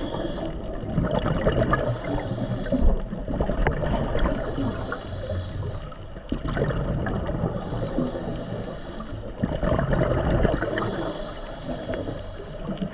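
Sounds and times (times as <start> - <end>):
water sloshing and gurgling: 0.0 - 12.9.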